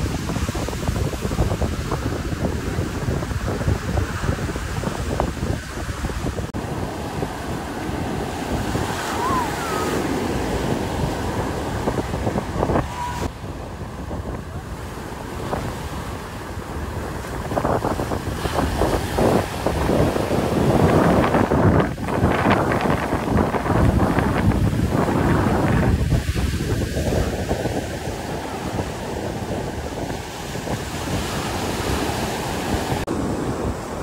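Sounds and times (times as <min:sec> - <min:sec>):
surf breaking on beach: 0:00.0 - 0:34.0
wind buffeting microphone: 0:00.0 - 0:34.0.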